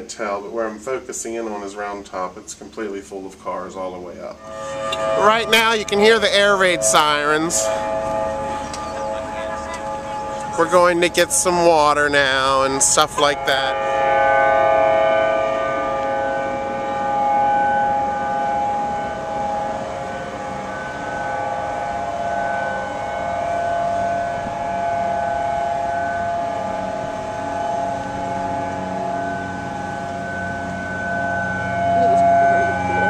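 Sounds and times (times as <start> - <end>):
warning sirens steady tones: 4.4 - 33.0.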